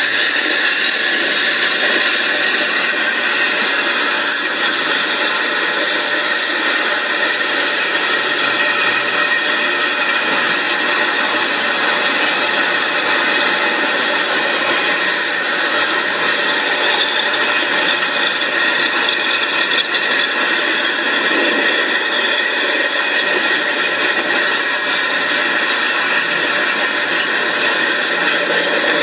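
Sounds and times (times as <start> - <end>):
freight train rolling on rails: 0.0 - 29.0.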